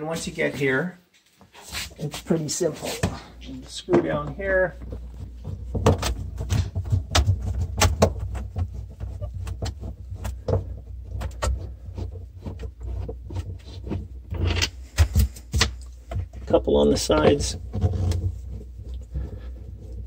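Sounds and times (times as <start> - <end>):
rustling and handling: 0.0 - 20.0.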